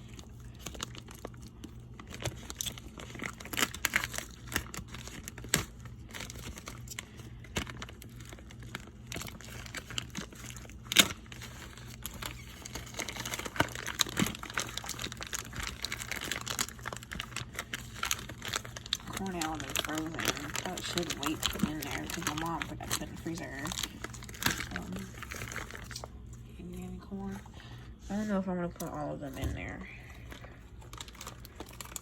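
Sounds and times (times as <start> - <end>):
packaging crinkling and rustling: 0.0 - 32.0.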